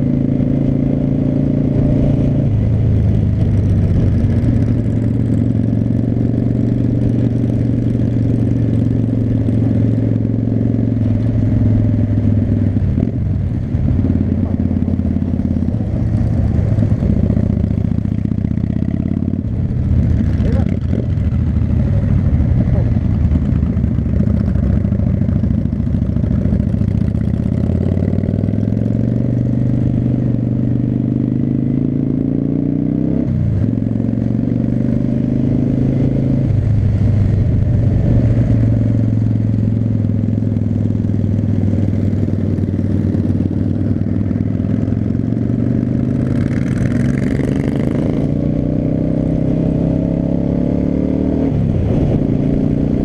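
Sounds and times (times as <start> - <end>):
motorcycle engine shifting gears: 0.0 - 53.0.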